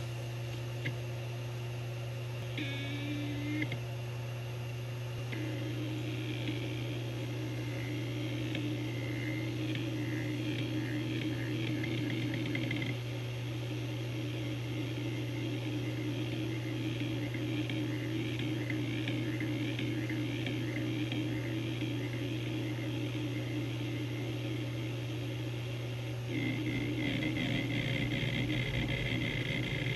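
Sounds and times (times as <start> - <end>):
hard drive spindle hum: 0.0 - 29.9
hard drive head chirps and ticks: 2.4 - 3.8, 5.2 - 13.0, 13.7 - 25.6, 26.3 - 29.9.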